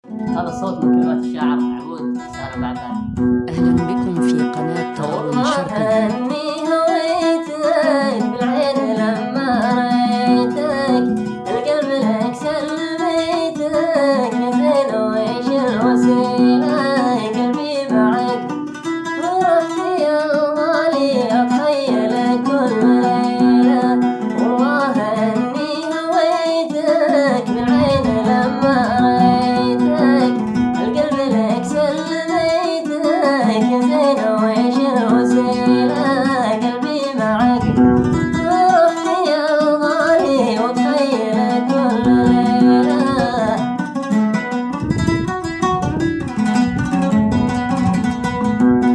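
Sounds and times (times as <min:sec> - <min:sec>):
plucked string instrument: 0:00.0 - 0:48.9.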